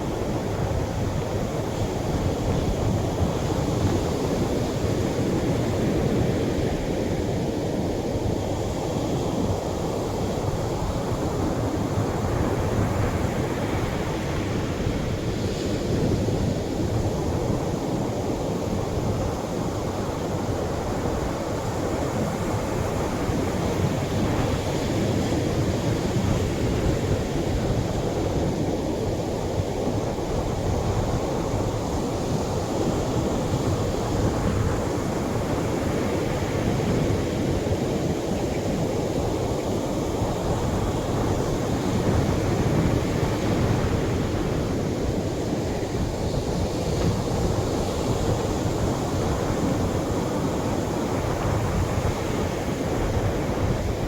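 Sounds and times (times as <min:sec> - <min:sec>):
surf breaking on a beach: 0:00.0 - 0:54.0.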